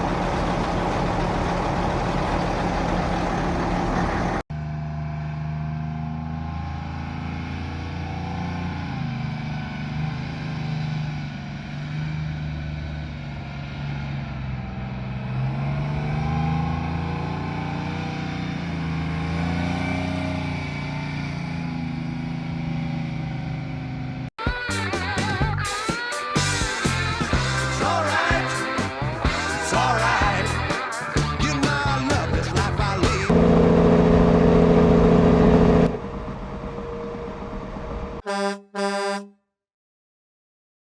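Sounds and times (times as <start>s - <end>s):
diesel engines running: 0.0s - 38.6s.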